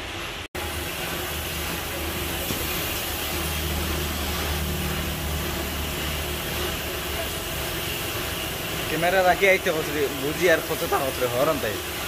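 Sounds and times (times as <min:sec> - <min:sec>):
low machine hum: 0:00.6 - 0:12.0
paint spray gun hissing: 0:00.6 - 0:12.0.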